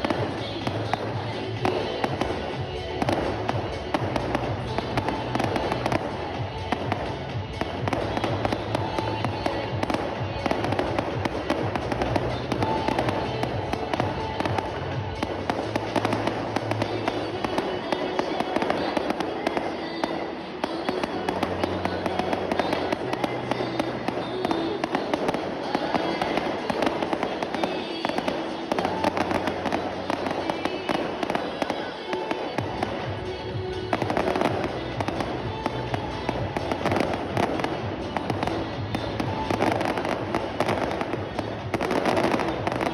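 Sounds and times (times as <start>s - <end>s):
fireworks bursting and crackling: 0.0s - 42.9s
music playing: 0.0s - 42.9s.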